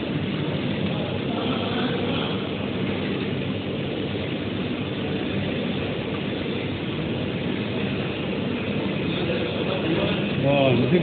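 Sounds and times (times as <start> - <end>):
flatbed printer running: 0.0 - 11.0.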